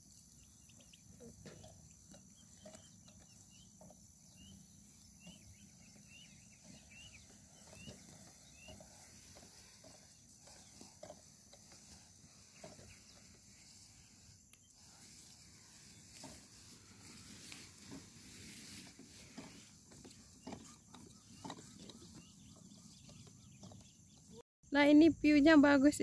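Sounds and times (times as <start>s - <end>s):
distant bird chirps: 0.2s - 24.4s.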